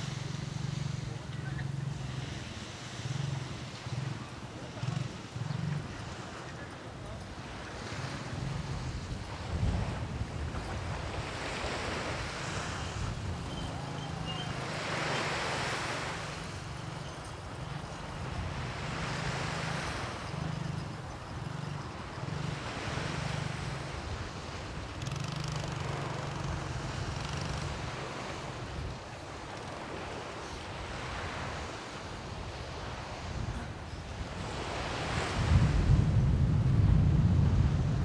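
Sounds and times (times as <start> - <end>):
surf breaking on beach: 0.0 - 16.7, 22.0 - 38.0.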